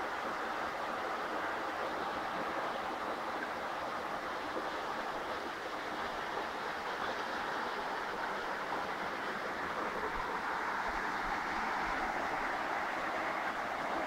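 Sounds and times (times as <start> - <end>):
stream water over rocks: 0.0 - 14.0.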